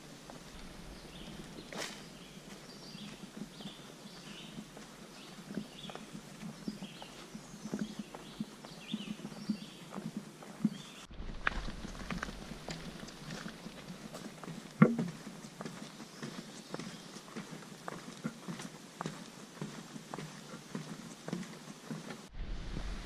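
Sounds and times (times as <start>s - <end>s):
footsteps on leafy dirt trail: 0.0s - 22.3s
small birds chirping: 0.0s - 22.3s.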